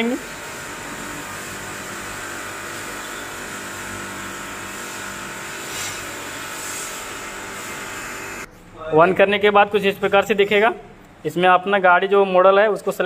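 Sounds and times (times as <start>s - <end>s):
mechanical hum with whir: 0.0s - 11.4s.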